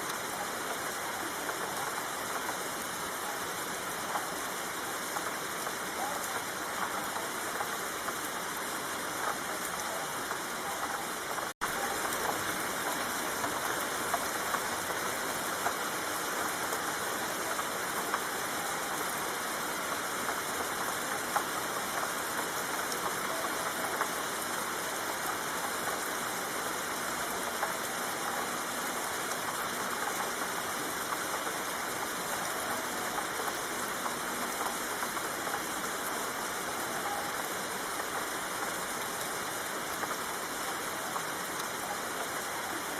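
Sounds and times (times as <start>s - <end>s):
steady rain falling: 0.0s - 42.9s
raindrop ticks: 0.1s - 42.9s.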